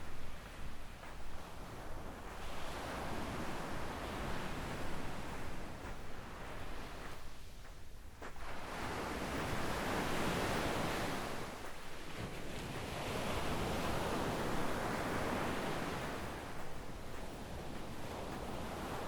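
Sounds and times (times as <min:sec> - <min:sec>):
waves washing up beach: 0:00.0 - 0:19.0.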